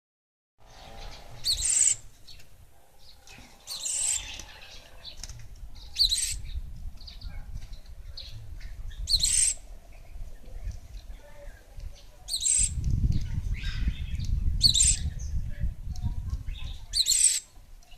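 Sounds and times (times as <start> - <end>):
bird chirping calls: 0.6 - 15.4, 16.3 - 17.9.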